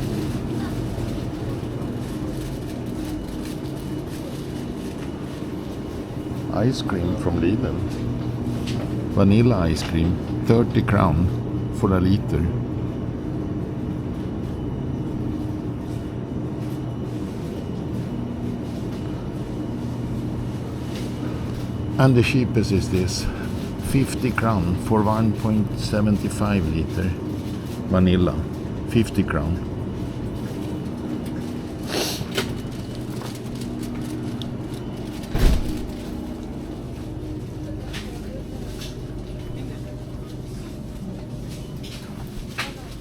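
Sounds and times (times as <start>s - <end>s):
freezer mechanical hum: 0.0s - 43.0s.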